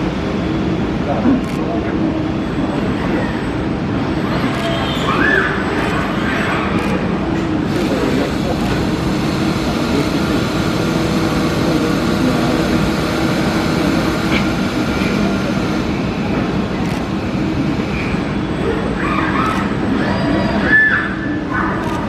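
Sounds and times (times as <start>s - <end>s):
factory machinery hum: 0.0s - 22.0s.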